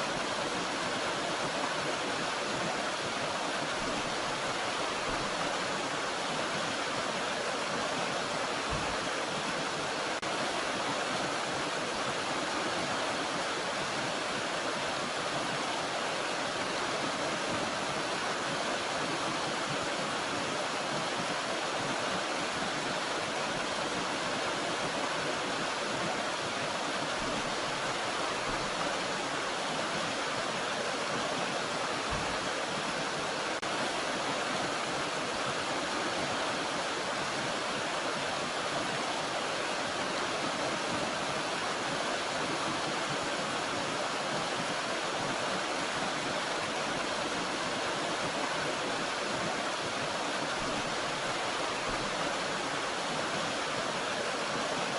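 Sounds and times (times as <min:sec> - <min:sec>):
water rushing over waterfall: 0:00.0 - 0:54.9.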